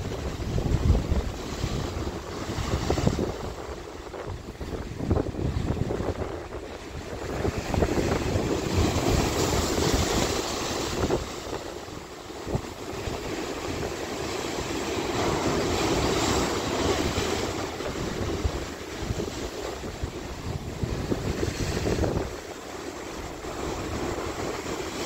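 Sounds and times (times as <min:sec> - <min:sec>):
sea waves breaking on rocks: 0:00.0 - 0:25.0.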